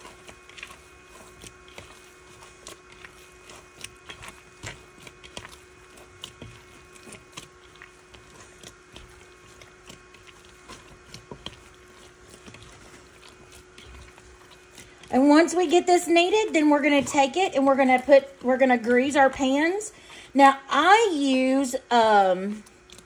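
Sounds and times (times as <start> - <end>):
dough squishing: 0.0 - 23.0
faint steady hum: 0.0 - 23.0.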